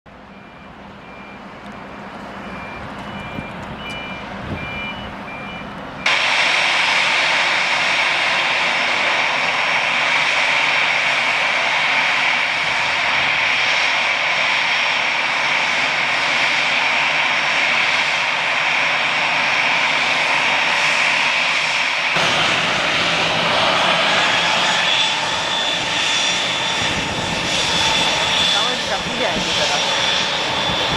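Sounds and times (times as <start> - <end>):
jet engines roaring with whine: 0.1 - 30.9.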